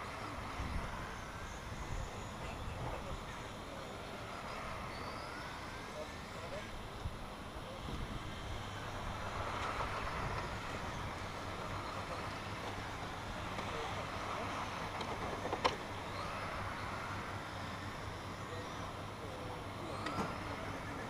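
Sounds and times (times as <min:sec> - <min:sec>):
electric toy truck motors whining: 0:00.0 - 0:21.0.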